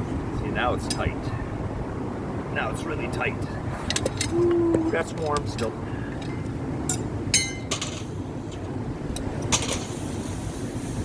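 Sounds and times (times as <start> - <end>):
low rushing background: 0.0 - 11.0.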